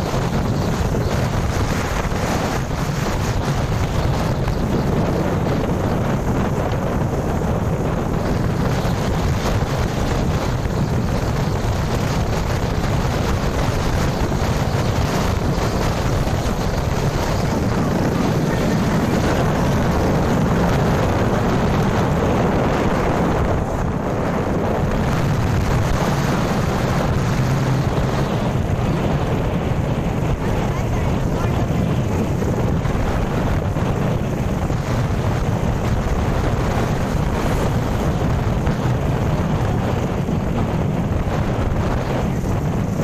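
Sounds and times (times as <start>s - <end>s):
road noise: 0.0s - 43.0s
small motorbike running: 0.0s - 43.0s
wind buffeting microphone: 0.0s - 43.0s.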